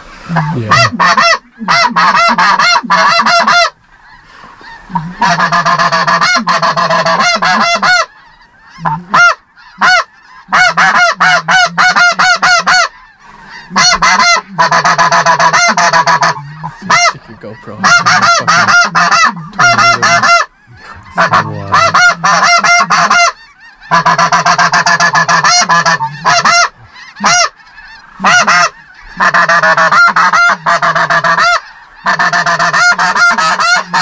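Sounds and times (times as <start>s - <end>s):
goose calls blown: 0.2s - 34.0s.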